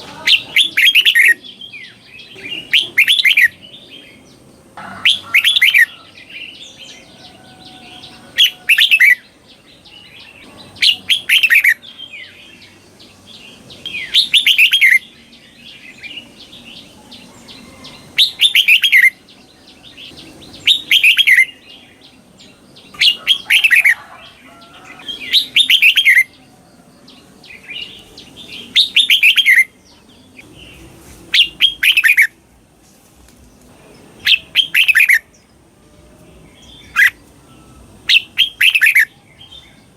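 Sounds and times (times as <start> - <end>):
soft bird chirping: 0.0 - 32.4, 33.4 - 39.9.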